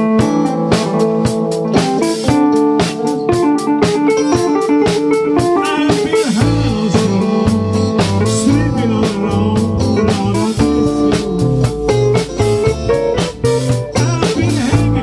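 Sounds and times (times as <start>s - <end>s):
deep bass line: 0.0s - 15.0s
drum kit beat: 0.0s - 15.0s
electric guitars: 0.0s - 15.0s.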